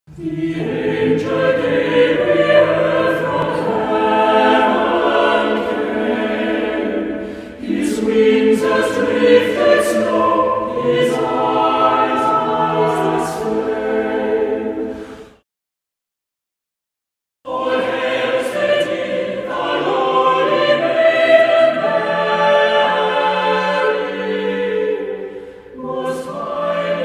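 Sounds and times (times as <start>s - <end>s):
choir singing: 0.1s - 15.4s, 17.5s - 27.0s.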